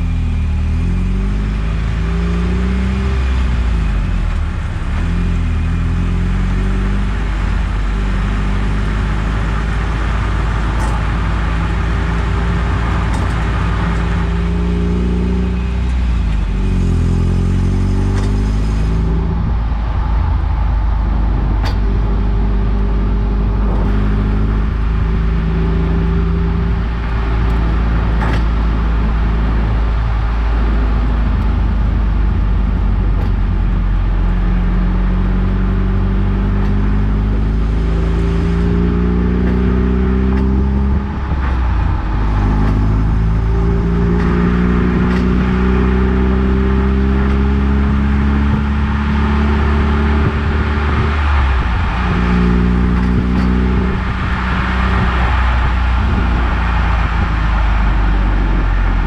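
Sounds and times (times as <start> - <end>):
car engine running: 0.0 - 59.0
road and wind rumble: 0.0 - 59.0.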